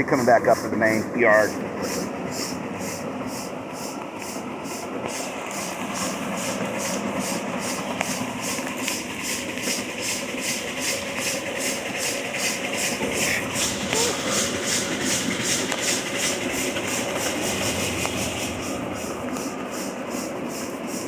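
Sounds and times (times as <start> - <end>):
cars rumbling on track: 0.0 - 21.0
steam locomotive chuffing: 0.0 - 21.0.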